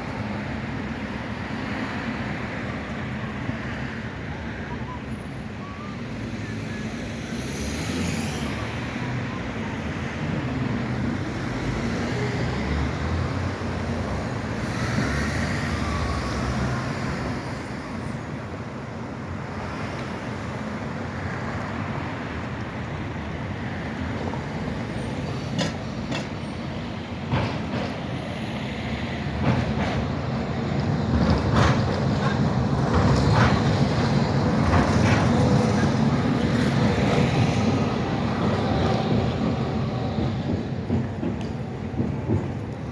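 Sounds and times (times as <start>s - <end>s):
road traffic: 0.0s - 42.9s
tram rumbling on tracks: 0.0s - 42.9s.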